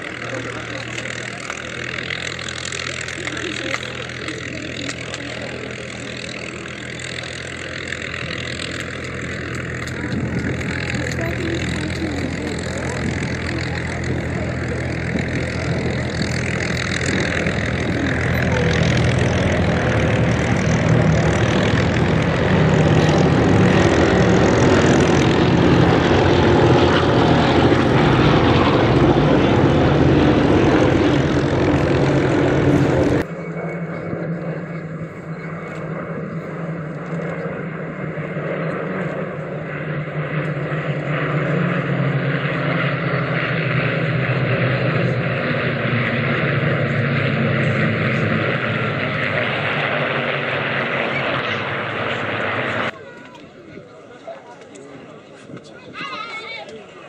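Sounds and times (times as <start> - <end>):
propeller engines droning: 0.0 - 57.0.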